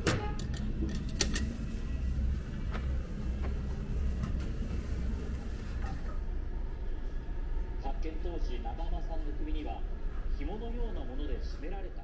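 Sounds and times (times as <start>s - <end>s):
restaurant low hum: 0.0s - 12.0s.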